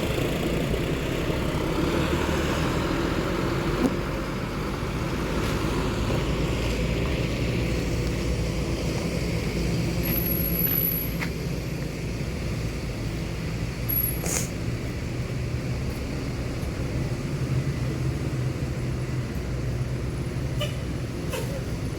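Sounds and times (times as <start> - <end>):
bus engine idling: 0.0 - 21.9.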